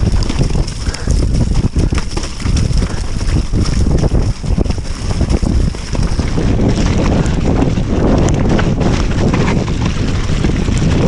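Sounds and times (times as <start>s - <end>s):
bike knocks and rattles: 0.0s - 11.0s
wind rushing on microphone: 0.0s - 11.0s.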